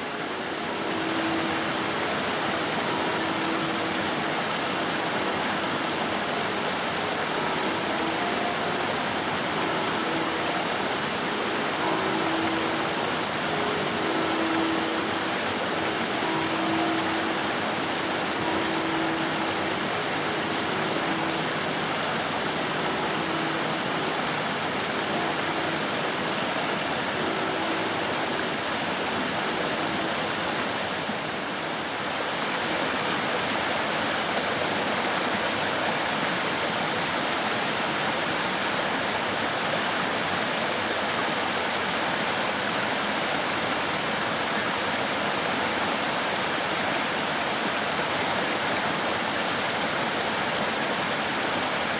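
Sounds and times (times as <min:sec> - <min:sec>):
water rushing down a flume: 0:00.0 - 0:51.9.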